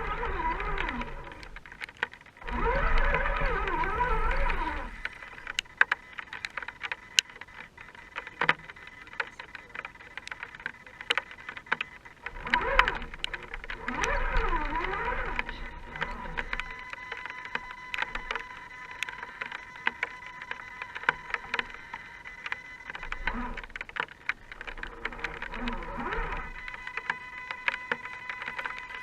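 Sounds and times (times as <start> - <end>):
electric motor and gears whining: 0.0 - 29.0
sharp clicks and ticks: 0.0 - 29.0.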